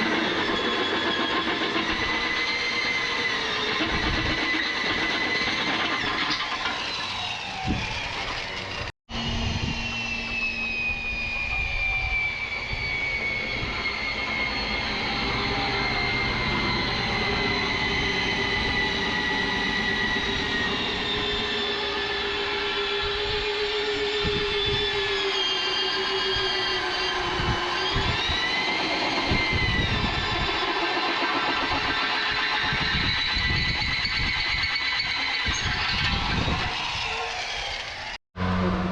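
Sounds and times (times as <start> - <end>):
high whine gliding downward: 0.0 - 38.9
mechanical noise with whines: 0.0 - 38.9.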